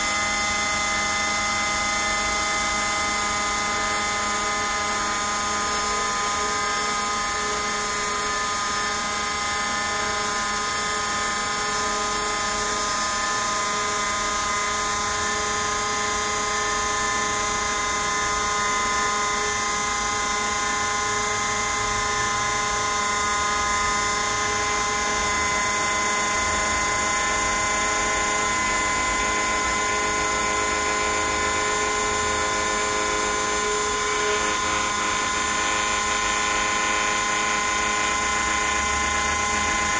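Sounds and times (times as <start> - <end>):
router spindle motor whining: 0.0 - 39.9.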